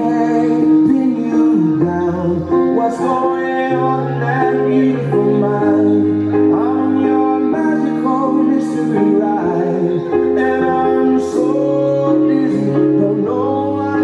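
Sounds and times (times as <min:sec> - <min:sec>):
song with singing: 0:00.0 - 0:14.0.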